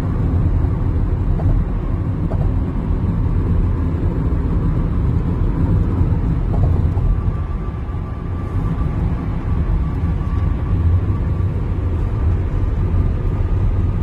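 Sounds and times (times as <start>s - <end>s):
car road noise from cabin: 0.0s - 14.0s.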